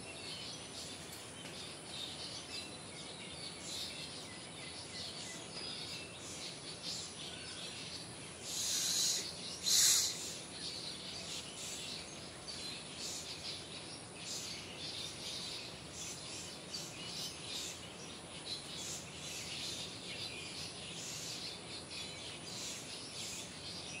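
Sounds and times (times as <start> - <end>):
insects: 0.0 - 24.0
small birds chirping: 0.0 - 24.0.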